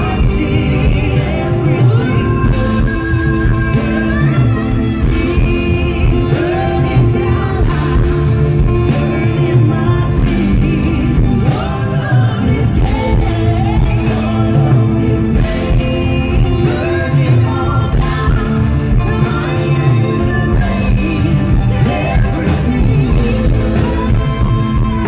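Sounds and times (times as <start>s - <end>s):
acoustic guitar: 0.0s - 25.0s
people singing together: 0.0s - 25.0s.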